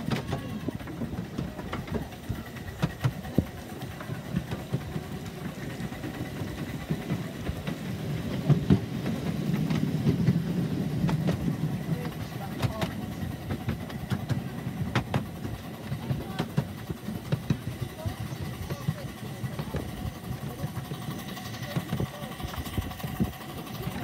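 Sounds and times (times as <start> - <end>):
miniature train rumbling: 0.0 - 24.0
wheel clicks on rail: 0.0 - 24.0.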